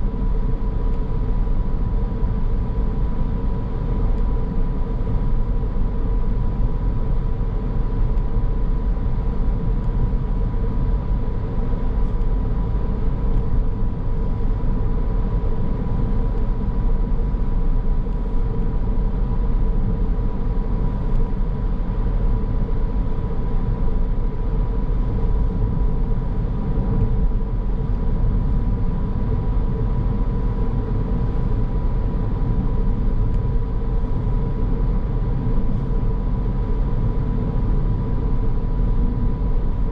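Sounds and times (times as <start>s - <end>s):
car road and engine noise: 0.0s - 39.9s
faint constant whine: 0.0s - 39.9s.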